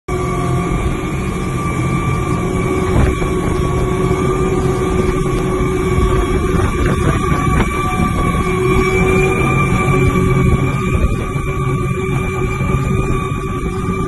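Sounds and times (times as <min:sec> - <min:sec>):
outboard engines running: 0:00.1 - 0:14.0
rushing water: 0:00.1 - 0:14.0
rushing wind: 0:00.1 - 0:14.0.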